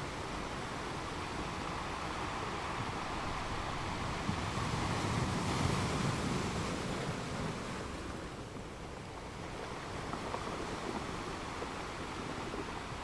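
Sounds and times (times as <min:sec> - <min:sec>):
ocean waves washing on sand: 0:00.0 - 0:13.0.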